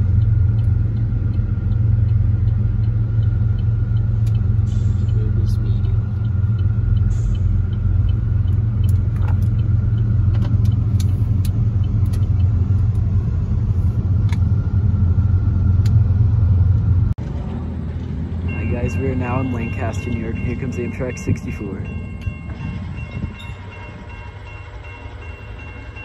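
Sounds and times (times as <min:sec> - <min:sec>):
car cabin road and engine rumble: 0:00.0 - 0:26.0.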